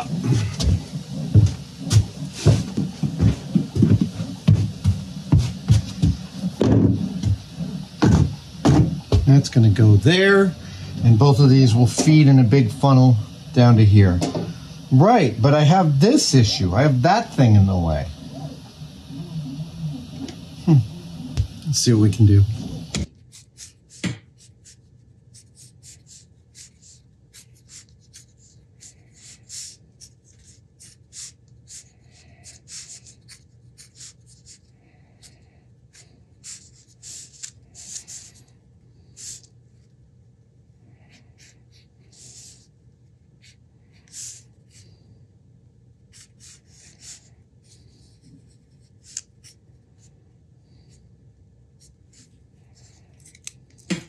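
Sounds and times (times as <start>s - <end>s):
scratching and rubbing strokes: 0.0s - 39.9s, 41.0s - 42.7s, 46.1s - 50.1s
steady low hum: 0.0s - 54.0s.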